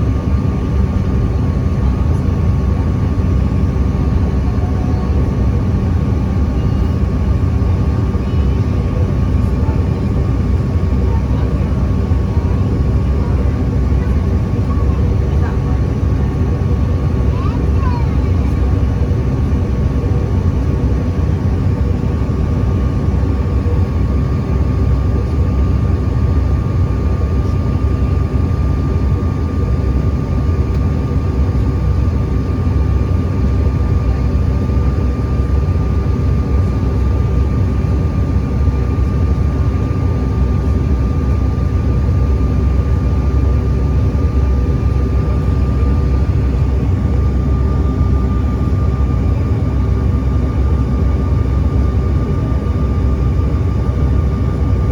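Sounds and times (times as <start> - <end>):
airliner cabin engine rumble: 0.0 - 54.9.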